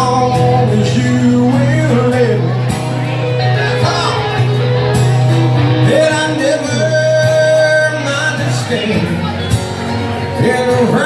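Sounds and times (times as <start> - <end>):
man singing: 0.0 - 4.8, 5.6 - 11.0
electric and acoustic guitars playing: 0.0 - 11.0.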